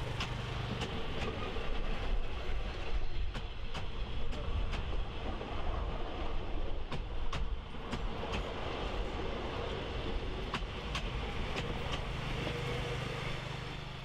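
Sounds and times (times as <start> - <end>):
wheels clicking over rail joints: 0.0 - 5.4, 6.6 - 14.0
train coaches rumbling past: 0.0 - 14.0.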